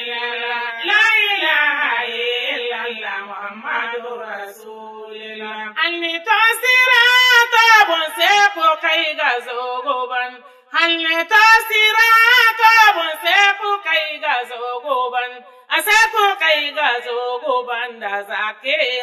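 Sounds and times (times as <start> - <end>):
person singing devotional chant: 0.0 - 19.0.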